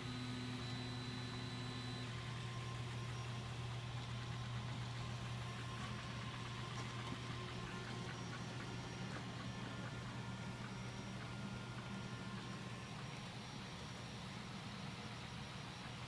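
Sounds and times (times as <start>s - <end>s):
printer humming: 0.0s - 16.0s.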